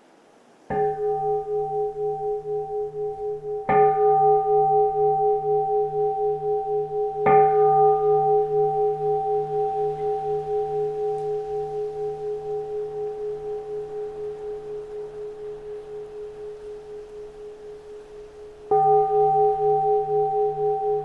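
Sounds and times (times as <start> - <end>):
bowl bell ringing: 0.7 - 21.0.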